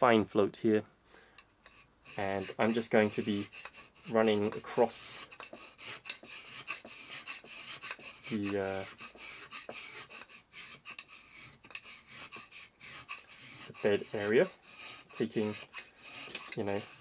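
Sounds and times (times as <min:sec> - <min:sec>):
file scraping wood: 0:01.4 - 0:17.0.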